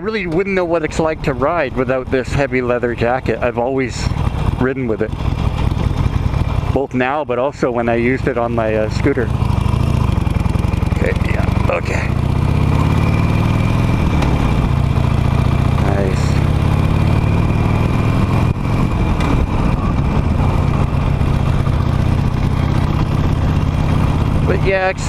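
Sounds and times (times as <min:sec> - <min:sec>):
motorcycle engine while riding: 0:00.0 - 0:25.0.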